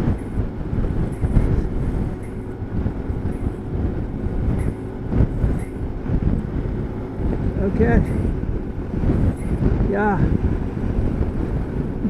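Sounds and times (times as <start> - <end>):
gusty wind buffeting microphone: 0.0 - 12.0.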